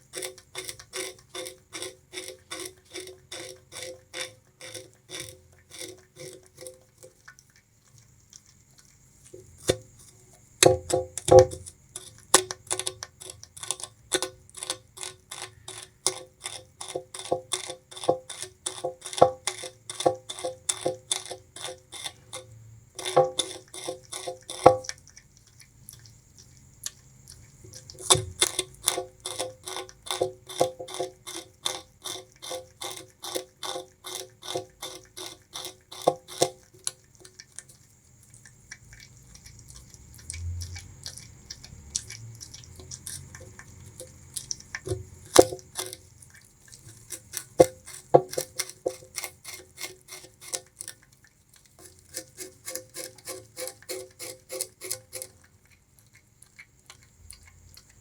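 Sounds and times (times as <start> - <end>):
rat chewing sugarcane: 0.0 - 58.0.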